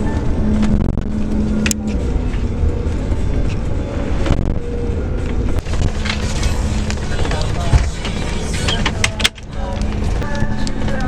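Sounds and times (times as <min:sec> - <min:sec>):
coach engine and road rumble: 0:00.0 - 0:11.0.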